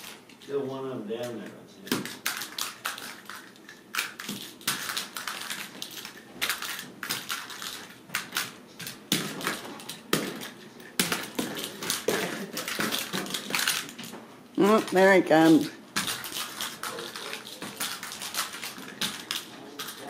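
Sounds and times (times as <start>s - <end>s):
kittens pattering on floor: 2.0s - 20.0s.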